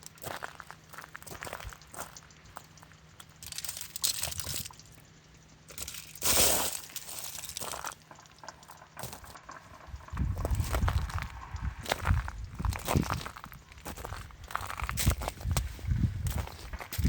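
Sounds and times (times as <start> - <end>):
ice crunching and crackling: 0.0 - 17.0.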